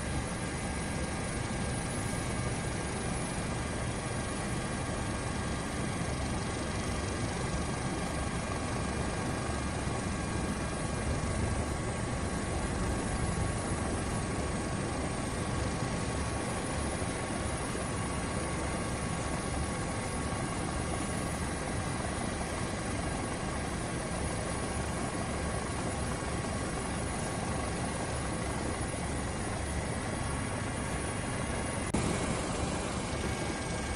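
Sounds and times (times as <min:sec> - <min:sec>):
faint whining tones: 0:00.0 - 0:33.9
helicopter rotor and engine drone: 0:00.0 - 0:33.9.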